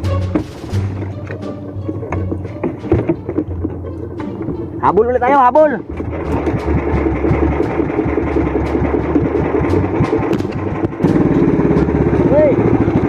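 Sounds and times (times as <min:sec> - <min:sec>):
small boat engine pulsing: 0:00.8 - 0:13.0.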